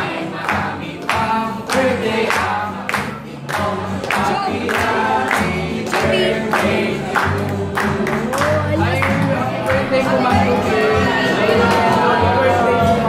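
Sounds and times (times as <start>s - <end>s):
hand clapping on the beat: 0.0s - 10.7s, 11.5s - 12.4s
group singing a birthday song: 0.0s - 13.0s.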